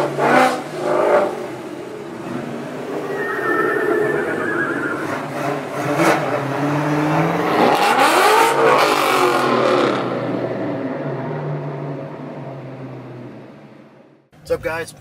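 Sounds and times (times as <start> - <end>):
car engine revving: 0.0 - 13.3.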